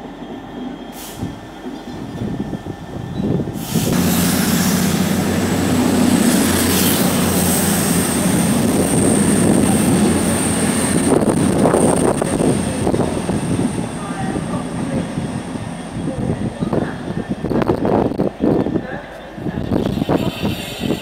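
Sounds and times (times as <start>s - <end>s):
diesel locomotive engine: 0.0s - 21.0s.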